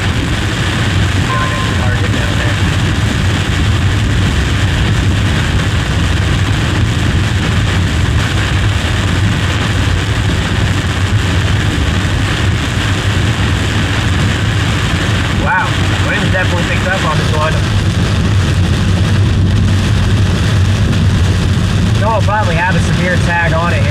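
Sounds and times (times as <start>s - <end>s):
vehicle road and engine noise: 0.0s - 23.9s.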